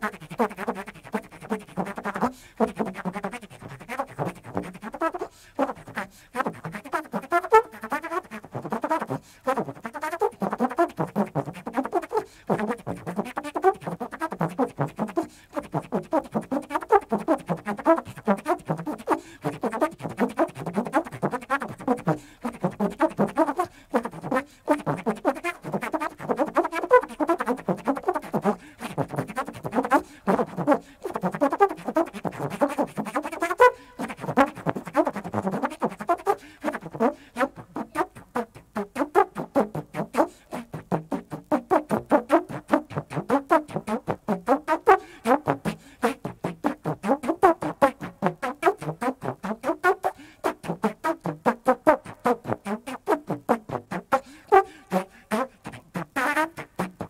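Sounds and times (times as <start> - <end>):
free jazz trombone: 0.0 - 57.0.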